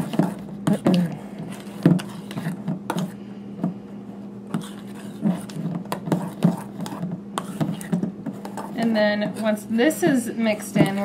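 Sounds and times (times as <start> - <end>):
spatula scraping metal bowl: 0.0 - 3.1, 4.5 - 11.0.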